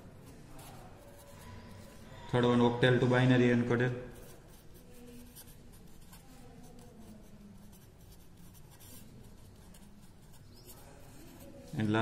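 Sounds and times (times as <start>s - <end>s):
pen scratching on paper: 0.0s - 2.2s, 4.1s - 12.0s.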